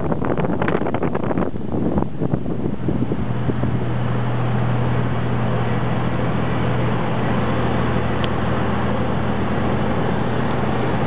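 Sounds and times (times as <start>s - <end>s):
engine hum: 0.0s - 11.0s
road and tyre noise: 0.0s - 11.0s.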